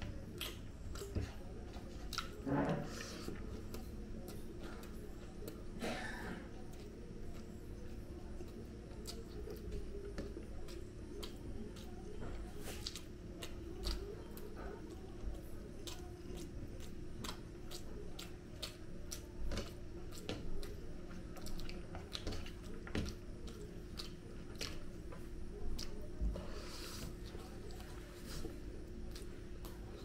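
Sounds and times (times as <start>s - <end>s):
wet chewing and mouth clicks: 0.0s - 5.9s, 6.5s - 30.0s
steady low hum: 0.0s - 30.0s.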